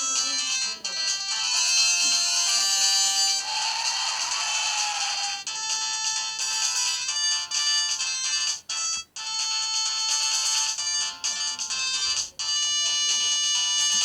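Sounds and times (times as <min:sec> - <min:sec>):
polyphonic phone ringtone: 0:00.0 - 0:14.0.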